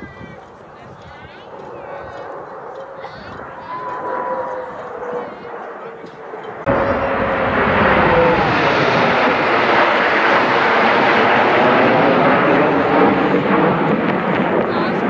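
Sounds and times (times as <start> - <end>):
jets roaring overhead: 1.4 - 15.0.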